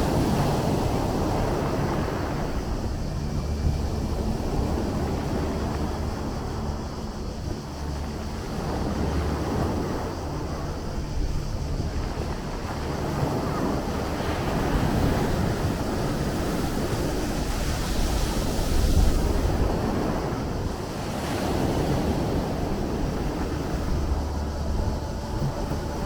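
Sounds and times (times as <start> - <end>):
sea surf washing in: 0.0 - 26.0.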